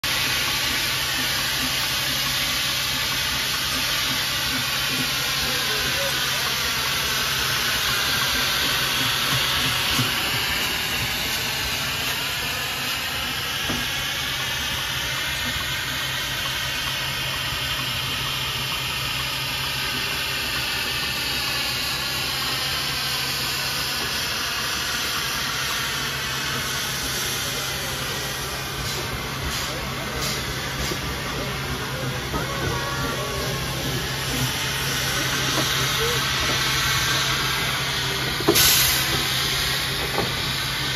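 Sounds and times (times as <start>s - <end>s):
steam engine hissing: 0.0s - 40.9s.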